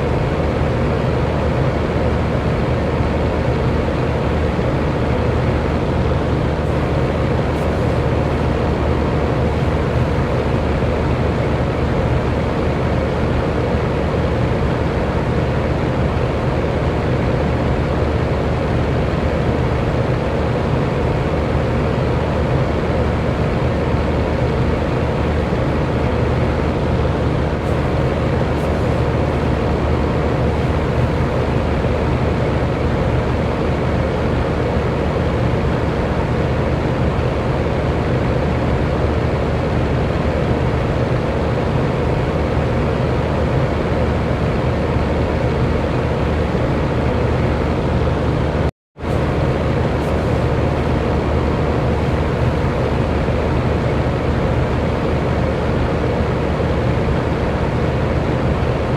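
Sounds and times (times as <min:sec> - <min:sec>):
electric fan air rushing: 0:00.0 - 0:58.9
fan motor hum: 0:00.0 - 0:58.9.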